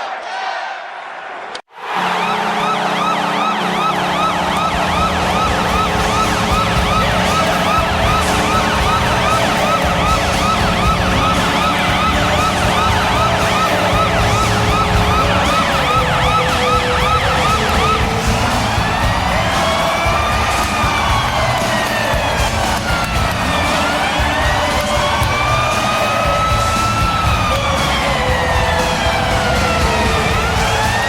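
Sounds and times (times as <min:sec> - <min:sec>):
deep arena goal horn: 0:01.8 - 0:31.0
rapid yelping siren: 0:01.8 - 0:31.0.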